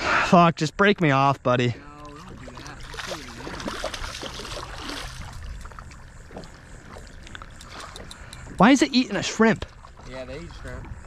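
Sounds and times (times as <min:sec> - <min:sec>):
water sloshing around kayak: 0:01.3 - 0:11.0.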